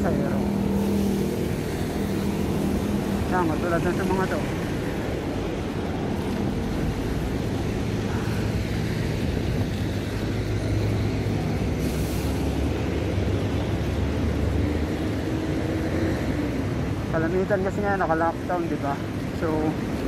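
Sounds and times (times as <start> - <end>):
wind noise: 0.0 - 17.1
city road traffic drone: 0.0 - 20.0.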